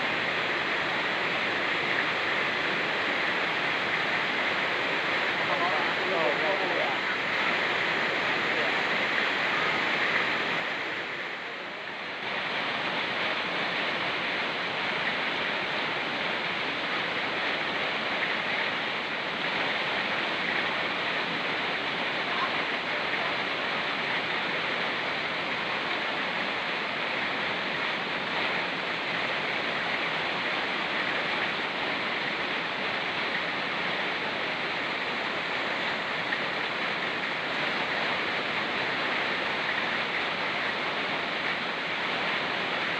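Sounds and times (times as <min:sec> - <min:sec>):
fast-flowing river rushing: 0:00.0 - 0:42.9
rain falling: 0:00.0 - 0:42.9.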